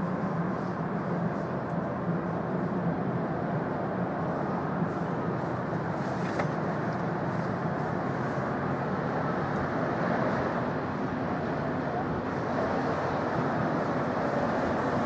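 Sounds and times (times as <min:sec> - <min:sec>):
distant city traffic: 0:00.0 - 0:15.0
train rumbling: 0:00.0 - 0:15.0.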